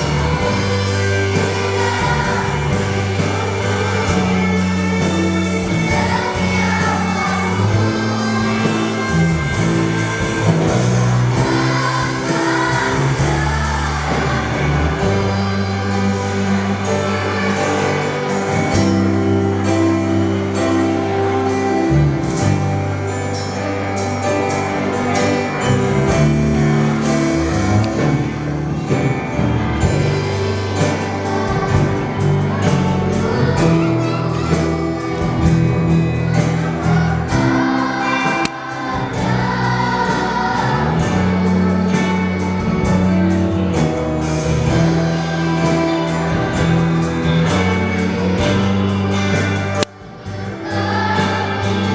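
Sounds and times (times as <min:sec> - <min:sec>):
steady drum beat: 0:00.0 - 0:19.4, 0:29.6 - 0:51.9
bass: 0:00.0 - 0:51.9
children's choir singing: 0:00.0 - 0:51.9
guitar: 0:00.0 - 0:51.9.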